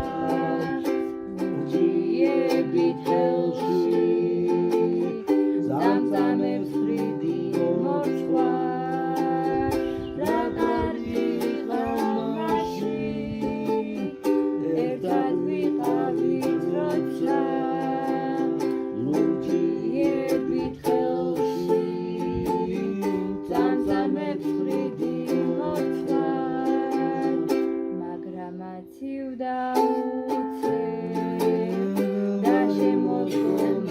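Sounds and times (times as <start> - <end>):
plucked string instrument folk music: 0.0 - 33.9.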